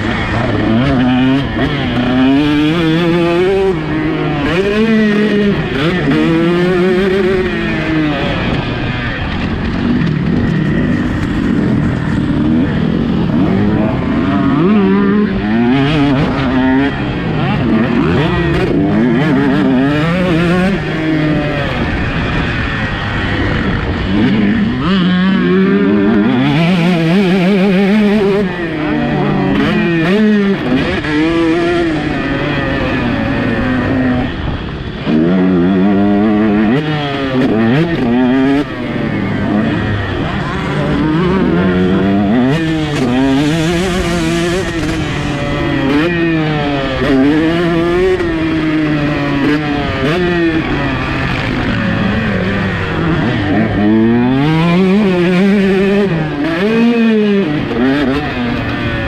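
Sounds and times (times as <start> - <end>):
two-stroke motocross bike engine revving: 0.0 - 59.0.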